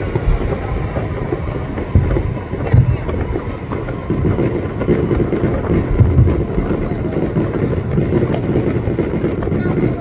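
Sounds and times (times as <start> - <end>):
distant firework shells booming: 0.0 - 10.0.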